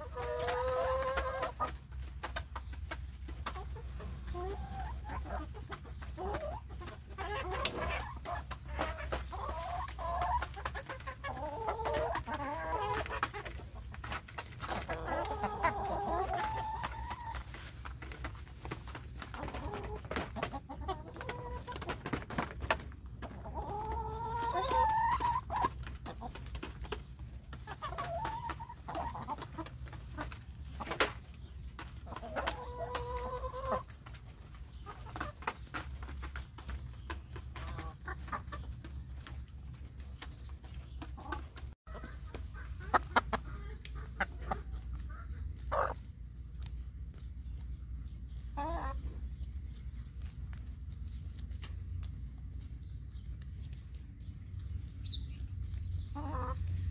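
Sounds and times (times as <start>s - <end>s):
hens clucking: 0.0s - 56.9s.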